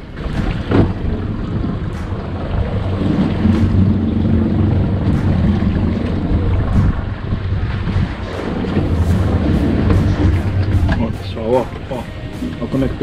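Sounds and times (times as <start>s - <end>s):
outboard motors idling: 0.0s - 13.0s
water around hull: 0.0s - 13.0s
wind on microphone: 0.0s - 13.0s.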